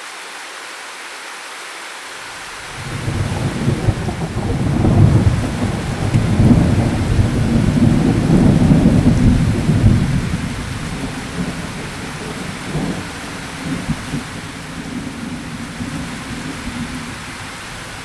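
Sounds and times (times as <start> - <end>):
steady rain: 0.0 - 18.0
rolling thunder: 2.6 - 18.0.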